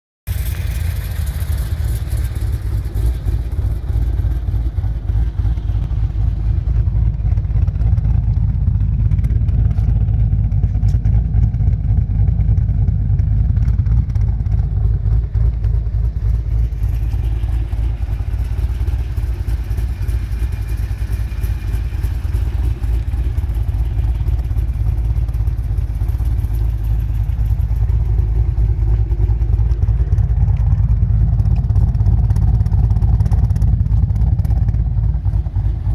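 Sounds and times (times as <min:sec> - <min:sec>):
car engine idling: 0:00.3 - 0:35.9.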